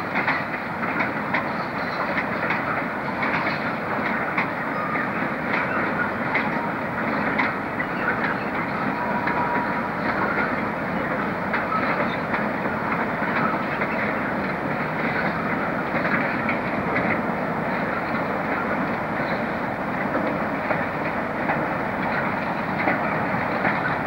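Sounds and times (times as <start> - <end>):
train rumbling rattle: 0.0 - 24.0
wheels clicking over rails: 0.1 - 24.0.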